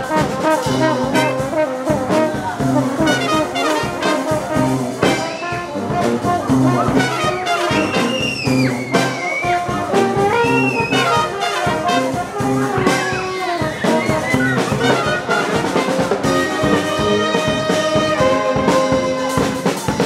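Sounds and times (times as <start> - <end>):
street brass band playing: 0.0 - 20.0.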